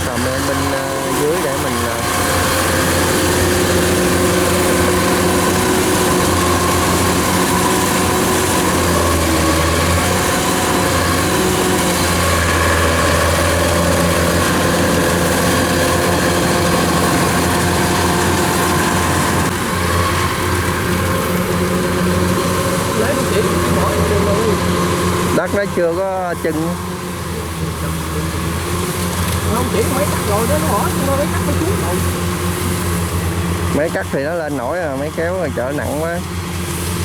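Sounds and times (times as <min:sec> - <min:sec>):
farm machine engine droning: 0:00.0 - 0:37.0.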